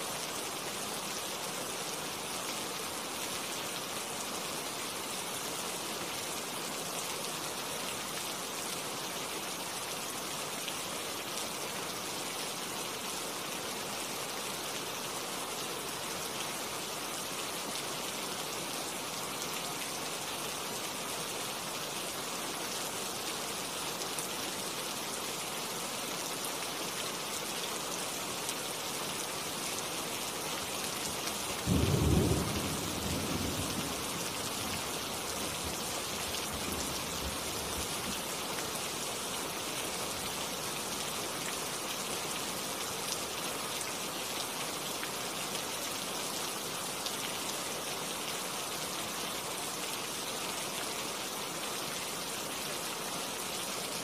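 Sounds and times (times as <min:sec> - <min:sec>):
rain falling on leaves: 0:00.0 - 0:54.0.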